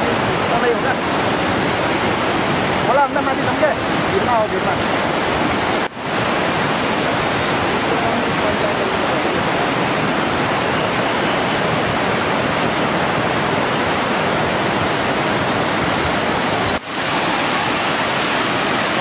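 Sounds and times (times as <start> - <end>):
flooded river roaring: 0.0 - 19.0.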